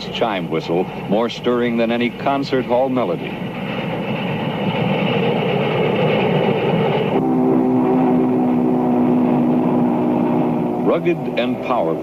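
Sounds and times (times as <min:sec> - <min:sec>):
steam locomotive rushing exhaust: 0:00.0 - 0:12.0.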